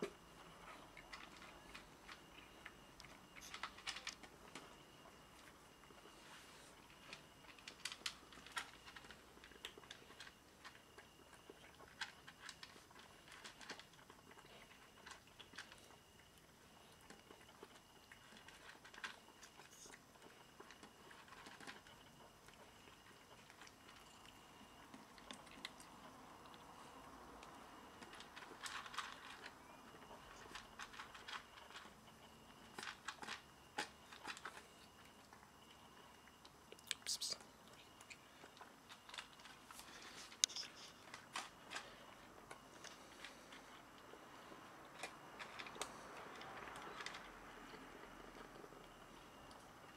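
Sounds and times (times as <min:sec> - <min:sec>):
cats crunching dry kibble: 0:00.0 - 0:49.9.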